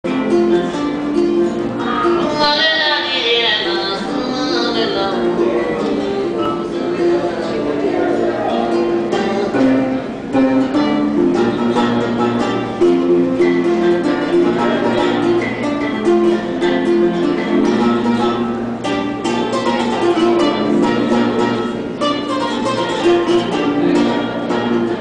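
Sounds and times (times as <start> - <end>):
plucked string instrument: 0.0 - 25.0.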